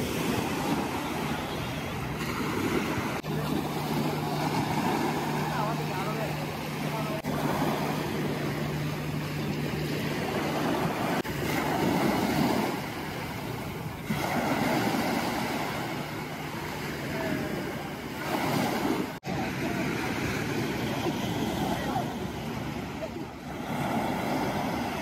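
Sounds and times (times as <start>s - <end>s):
small waves breaking on shore: 0.0s - 25.0s.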